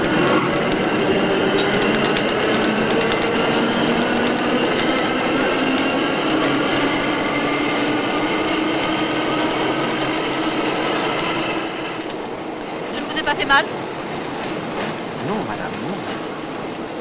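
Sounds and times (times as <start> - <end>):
metro train rumble and whine: 0.0 - 17.0.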